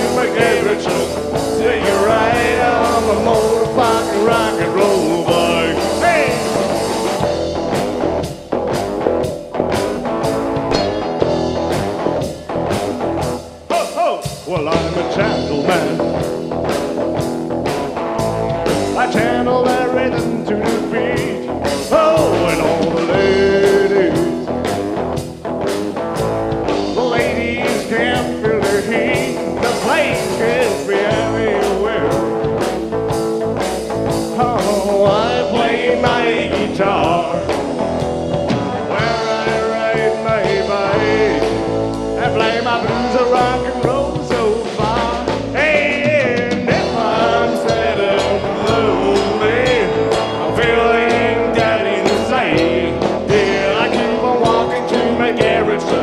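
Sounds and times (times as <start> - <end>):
live rock band playing: 0.0 - 56.0
steady drum beat: 0.0 - 56.0.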